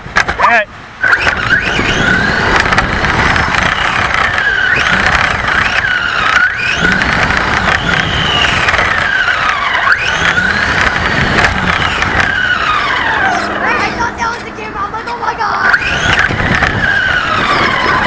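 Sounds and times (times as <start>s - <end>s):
wheels rumbling on ground: 0.0s - 18.0s
toy car motor whining: 1.0s - 14.0s, 15.6s - 18.0s.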